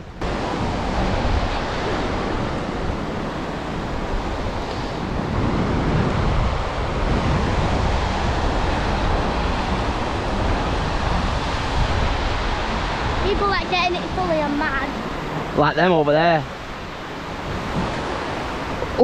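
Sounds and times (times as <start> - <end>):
ocean surf washing in: 0.0 - 19.0
wind buffeting microphone: 0.0 - 19.0.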